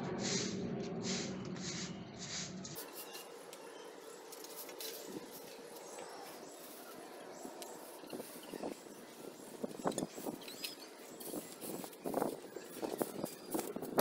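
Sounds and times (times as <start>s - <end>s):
broom sweeping straw on cement: 0.2s - 3.6s, 4.2s - 14.0s.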